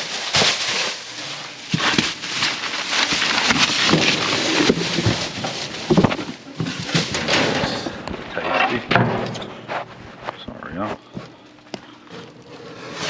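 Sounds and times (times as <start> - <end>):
plastic bags rustling: 0.0 - 8.8, 11.0 - 13.0.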